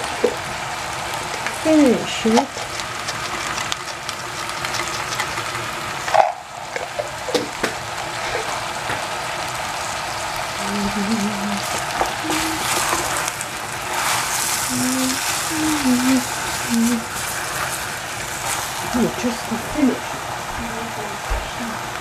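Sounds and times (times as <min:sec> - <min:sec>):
wooden spoon stirring vegetables: 0:00.0 - 0:20.9
vegetables sizzling in a saucepan: 0:00.0 - 0:22.0.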